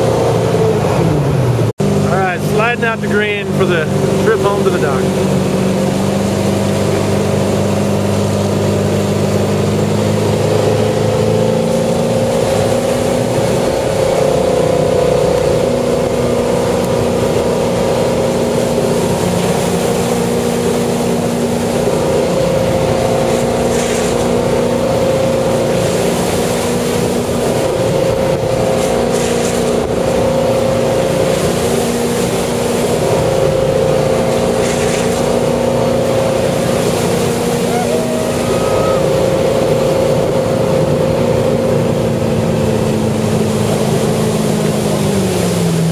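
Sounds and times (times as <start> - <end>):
boat engine running: 0.0 - 45.9
water rushing: 0.0 - 45.9.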